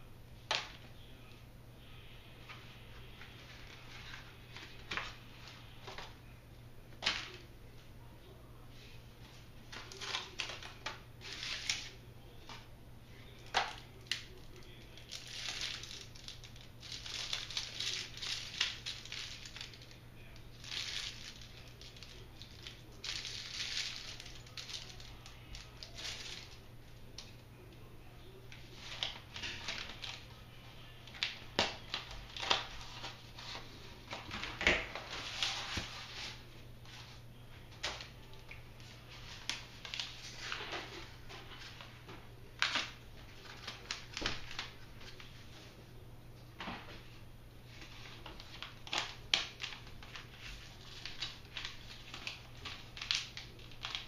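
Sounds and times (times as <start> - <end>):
paper and plastic wrap rustling: 2.4 - 6.2, 9.2 - 27.5, 28.5 - 45.8, 46.6 - 54.0.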